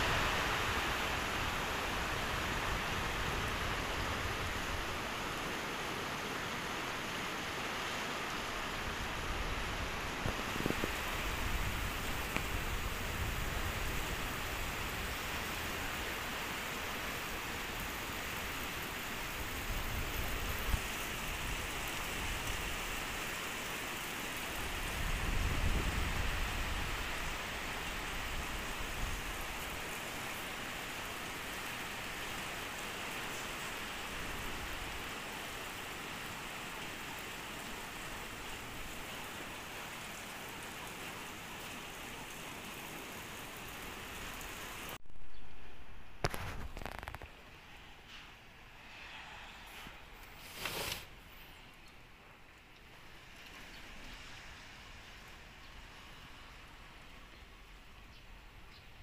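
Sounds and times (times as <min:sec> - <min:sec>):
heavy rain falling: 0:00.0 - 0:45.0, 0:45.8 - 0:51.4, 0:52.0 - 0:58.7.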